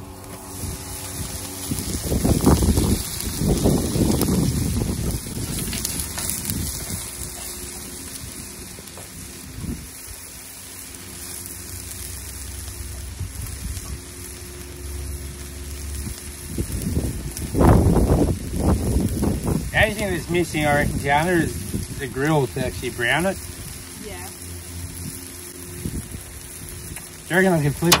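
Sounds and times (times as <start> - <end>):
food sizzling in a tray: 0.0 - 28.0.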